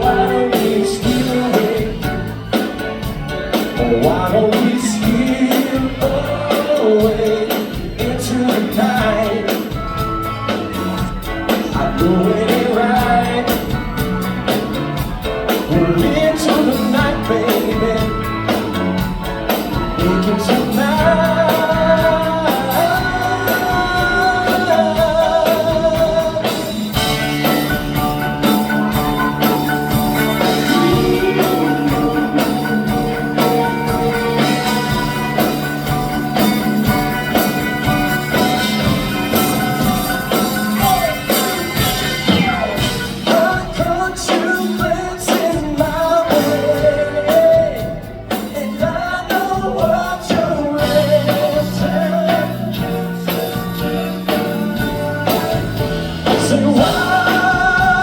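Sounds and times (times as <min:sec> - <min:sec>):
live soft rock band: 0:00.0 - 0:58.0
person singing: 0:00.0 - 0:58.0.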